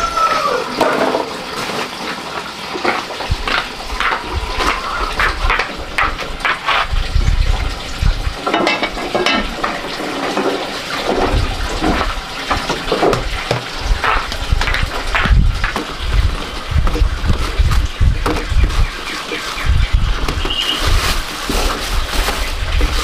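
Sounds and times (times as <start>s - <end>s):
low uneven rumbling: 3.2s - 23.0s.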